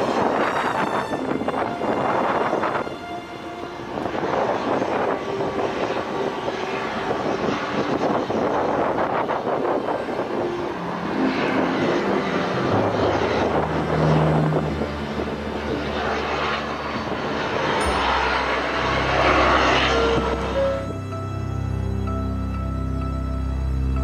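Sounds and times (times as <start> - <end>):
helicopters flying past: 0.0 - 24.0.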